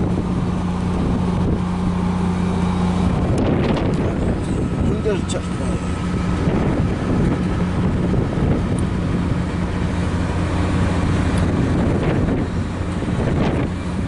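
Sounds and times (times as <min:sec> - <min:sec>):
diesel locomotive humming: 0:00.0 - 0:14.0.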